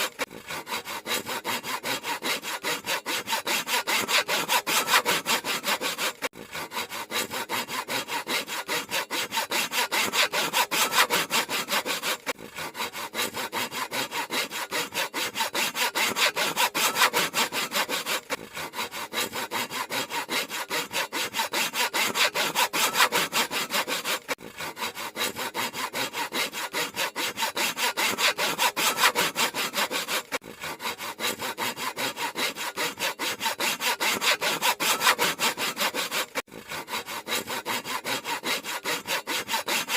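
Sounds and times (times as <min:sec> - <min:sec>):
handsaw cutting wood: 0:00.0 - 0:39.9.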